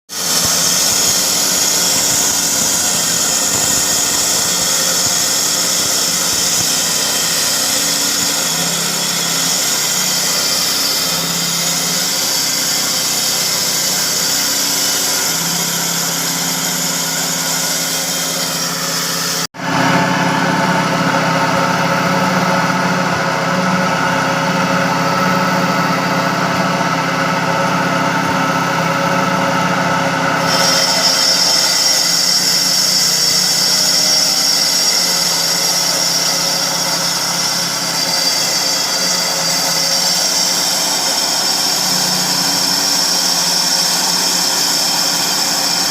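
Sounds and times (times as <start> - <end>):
construction machinery running: 0.1 - 45.9.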